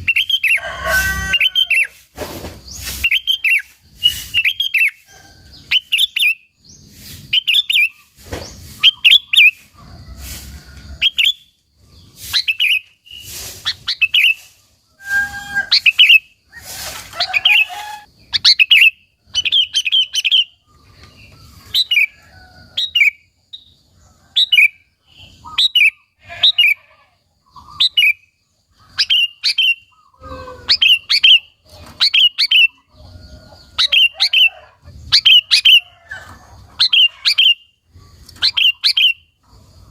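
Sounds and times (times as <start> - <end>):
bird chirping song: 0.0 - 10.1, 11.0 - 39.9.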